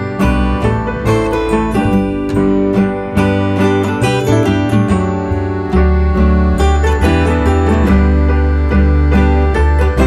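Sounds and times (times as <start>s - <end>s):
bass line: 0.0s - 10.0s
plucked acoustic guitar: 0.0s - 10.0s.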